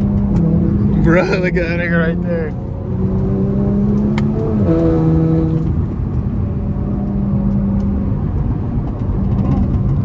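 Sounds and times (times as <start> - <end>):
car engine droning: 0.0 - 10.0
road and wind noise: 0.0 - 10.0.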